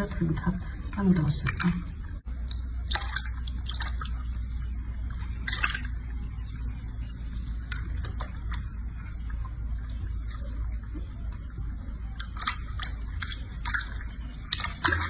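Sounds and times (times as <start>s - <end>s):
clicks and squishes: 0.0s - 15.0s
steady low hum: 0.0s - 15.0s
water splashing in a basin: 0.0s - 15.0s.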